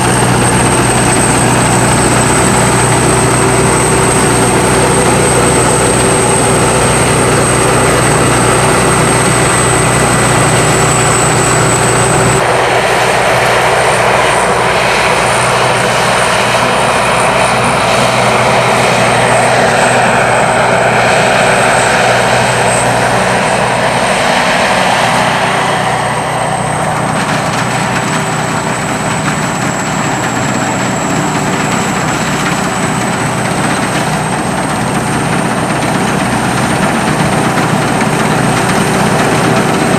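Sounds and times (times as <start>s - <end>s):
combine harvester engine: 0.0s - 39.9s
high steady whine: 0.0s - 39.9s.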